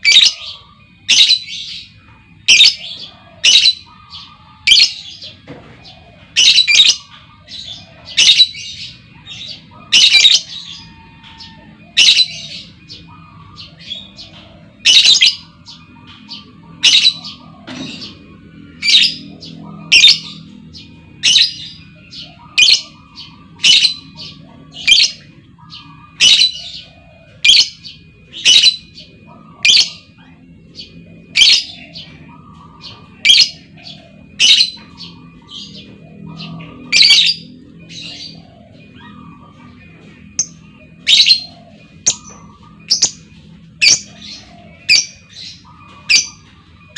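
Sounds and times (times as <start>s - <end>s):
lovebird calling: 0.0s - 46.9s.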